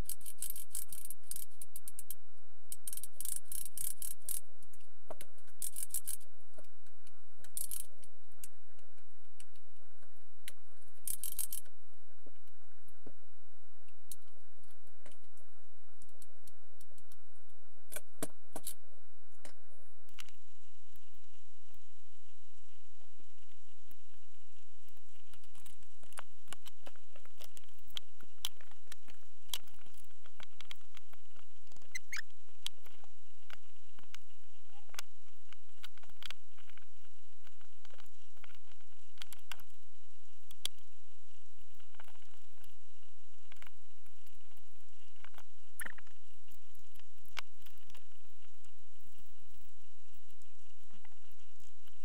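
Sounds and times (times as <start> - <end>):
crackles and short clicks: 0.0 - 52.0
steady low hum: 0.0 - 52.0.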